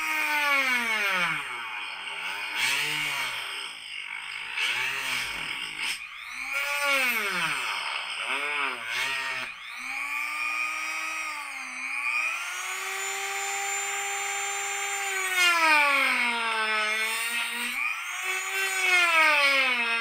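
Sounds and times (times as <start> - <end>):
rotary tool cutting plastic: 0.0 - 20.0.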